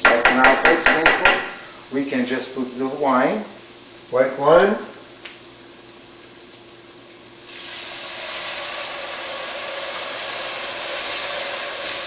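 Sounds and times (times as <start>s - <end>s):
wine sizzling in a hot pan: 0.0s - 12.0s.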